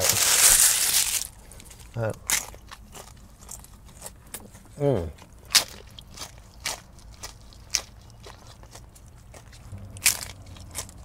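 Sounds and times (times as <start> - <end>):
crunchy taco being chewed: 0.0 - 11.0.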